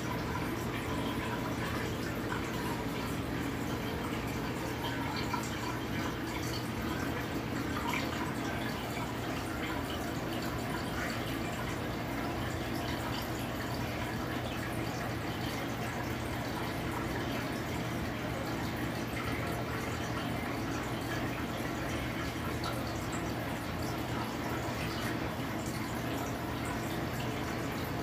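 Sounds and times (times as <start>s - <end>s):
low electrical hum: 0.0s - 28.0s
water trickling and dripping: 0.0s - 28.0s.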